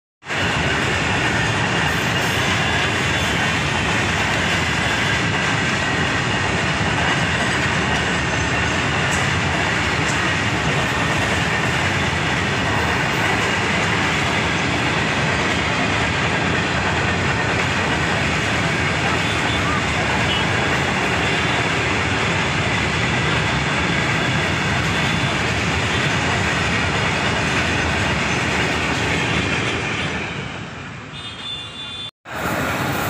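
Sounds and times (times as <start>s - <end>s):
freight train wheels rumbling on rails: 0.2s - 33.0s.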